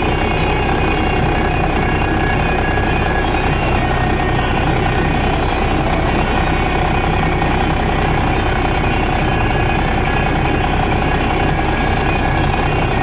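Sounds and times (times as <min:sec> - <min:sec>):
diesel farm machinery running: 0:00.0 - 0:13.0.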